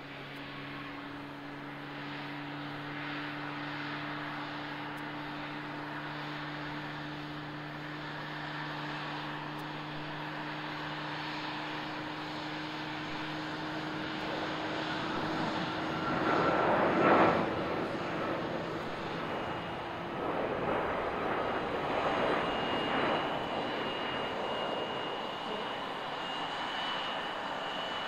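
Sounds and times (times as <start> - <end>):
jet engines roaring on landing: 0.0 - 28.0.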